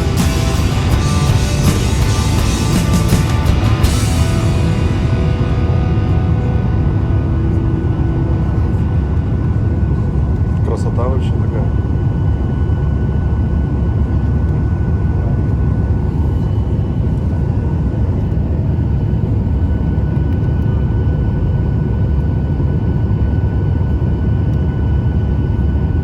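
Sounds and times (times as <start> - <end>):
jet cabin engine rumble: 0.0 - 26.0
thin steady whine: 0.0 - 26.0.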